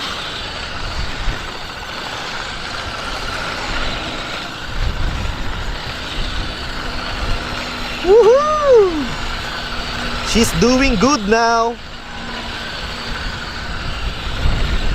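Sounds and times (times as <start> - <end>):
toy car electric motors whirring: 0.0 - 14.9.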